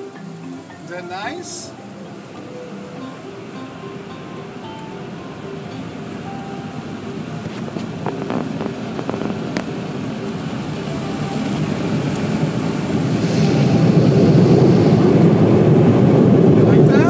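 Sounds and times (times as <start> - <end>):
car wash blowers: 0.0 - 17.0.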